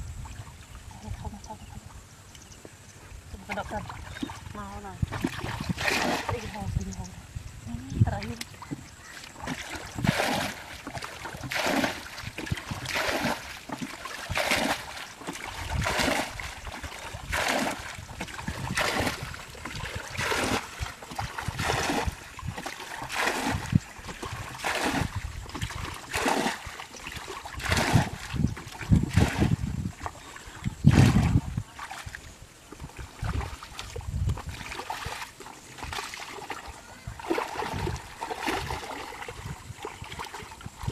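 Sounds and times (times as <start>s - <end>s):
water splashing from bucket: 3.4s - 7.0s, 7.7s - 40.9s.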